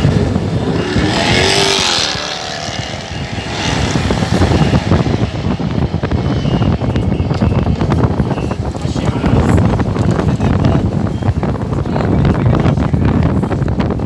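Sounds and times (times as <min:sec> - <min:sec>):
vehicle engine and road rumble: 0:00.0 - 0:14.0
wind buffeting through window: 0:00.0 - 0:14.0.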